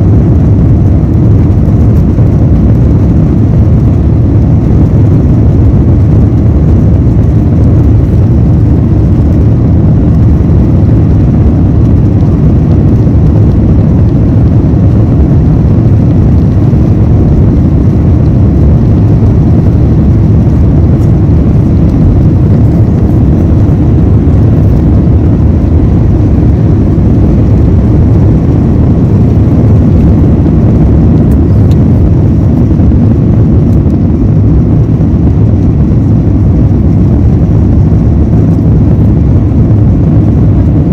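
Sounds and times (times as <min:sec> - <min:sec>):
jet engines at high power: 0:00.0 - 0:40.9.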